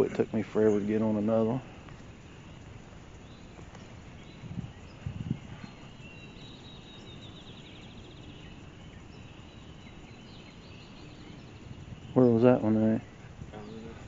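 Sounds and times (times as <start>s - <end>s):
songbirds singing: 0.0s - 14.0s
steady outdoor hiss: 0.0s - 14.0s.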